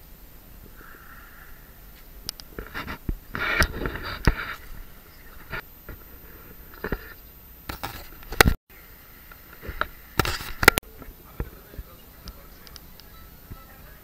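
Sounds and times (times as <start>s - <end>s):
rustling: 0.5s - 8.6s, 9.3s - 13.8s.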